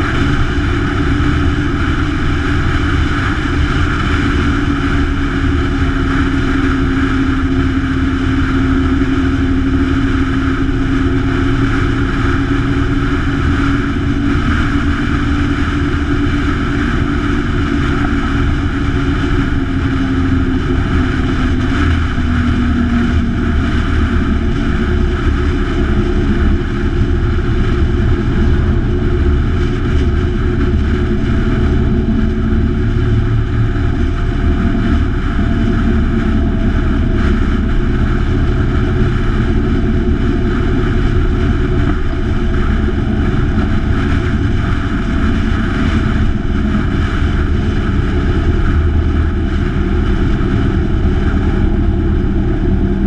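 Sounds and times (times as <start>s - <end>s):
wind noise on camera: 0.0s - 53.0s.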